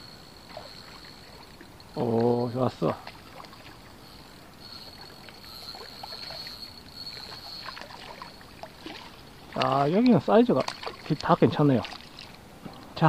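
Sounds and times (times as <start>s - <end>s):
thin high whine: 0.0s - 12.4s
water splashing and sloshing: 0.0s - 13.0s.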